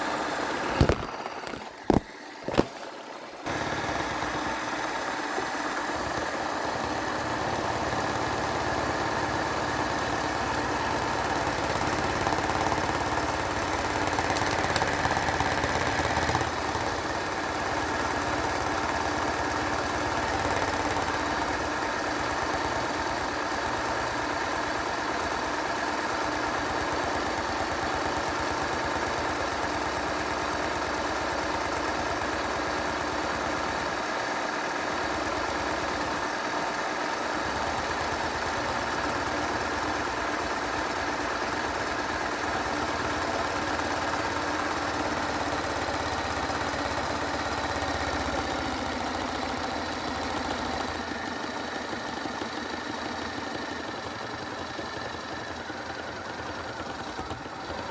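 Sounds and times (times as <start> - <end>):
washing machine motor whine: 0.0 - 57.9.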